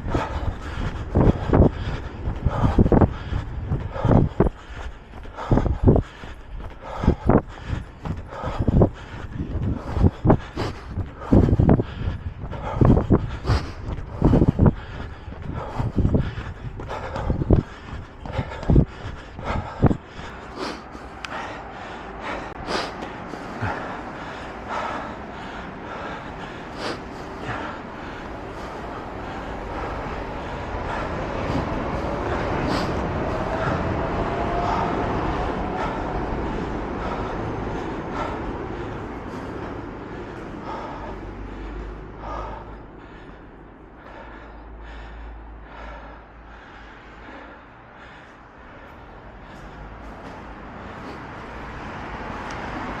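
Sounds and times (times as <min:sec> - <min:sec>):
wind rumbling on microphone: 0:00.0 - 0:20.5, 0:21.1 - 0:43.0
runner breathing hard: 0:00.0 - 0:53.0.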